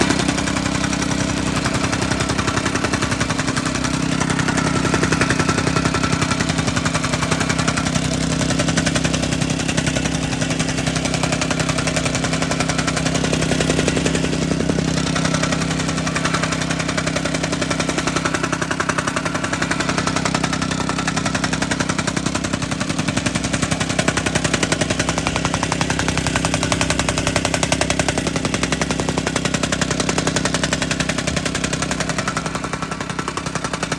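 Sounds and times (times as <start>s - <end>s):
tamping rammer engine: 0.0s - 33.9s.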